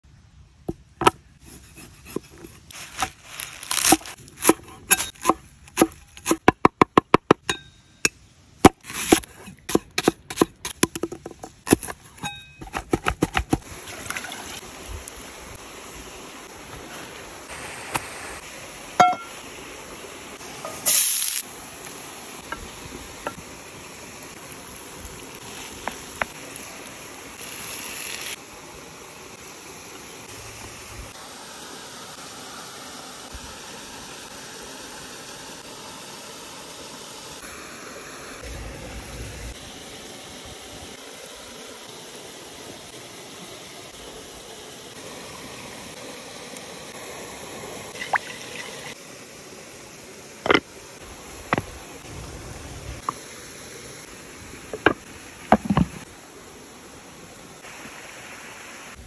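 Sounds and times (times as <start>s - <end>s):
waterfall and stream rushing: 7.5s - 59.0s.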